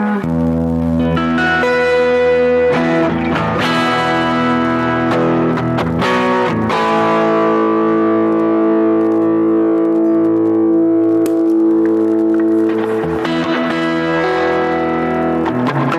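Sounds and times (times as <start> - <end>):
guitar chords strummed: 0.0 - 15.9.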